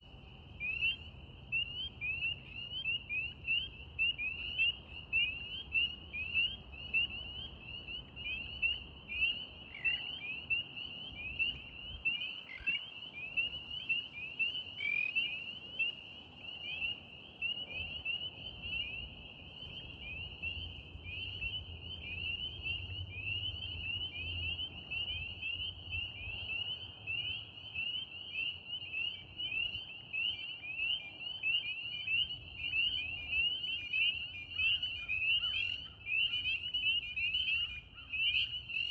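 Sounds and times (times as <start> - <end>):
frogs peeping chorus: 0.0 - 38.9.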